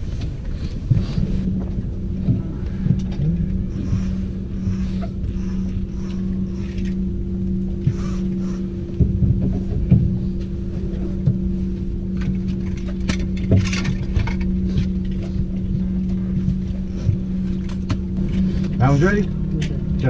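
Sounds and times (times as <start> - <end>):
boat machinery humming: 0.0 - 20.0.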